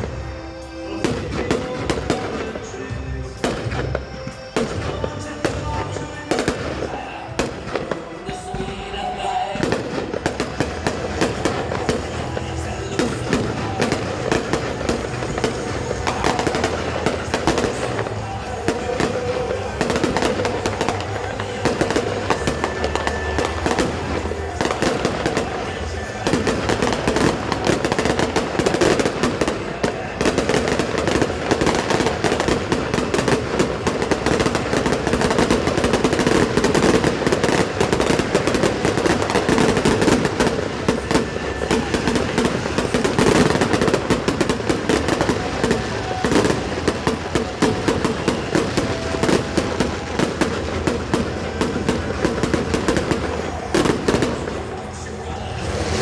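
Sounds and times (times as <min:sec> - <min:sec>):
fireworks banging and crackling: 0:00.0 - 0:56.0
music playing: 0:00.0 - 0:56.0.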